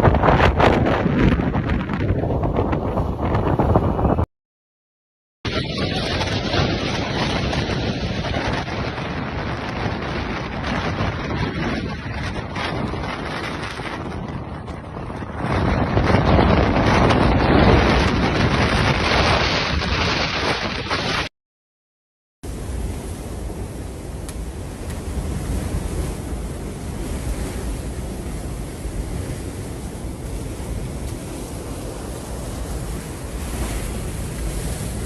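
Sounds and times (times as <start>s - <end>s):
storm wind buffeting microphone: 0.0s - 4.3s, 5.5s - 21.3s, 22.5s - 35.0s.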